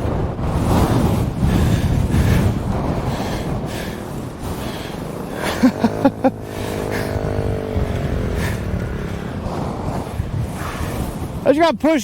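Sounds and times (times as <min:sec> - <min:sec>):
dirt bike engine revving: 0:00.0 - 0:11.4
wind buffeting microphone: 0:00.0 - 0:12.0.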